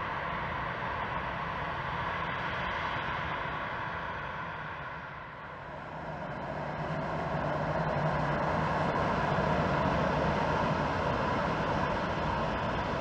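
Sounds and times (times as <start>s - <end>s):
jet engines taxiing: 0.0s - 13.0s.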